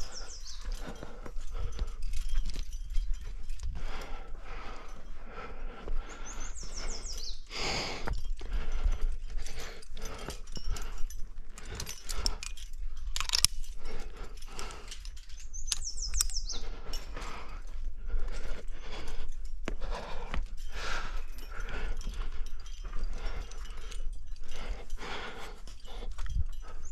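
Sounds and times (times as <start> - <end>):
carabiners clicking and clinking: 0.0 - 26.9
person breathing hard: 0.0 - 26.9.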